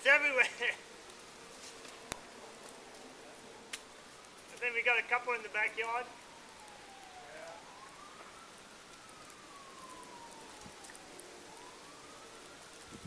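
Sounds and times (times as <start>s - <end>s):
background hiss: 0.0s - 13.0s
distant emergency siren wailing: 0.0s - 13.0s.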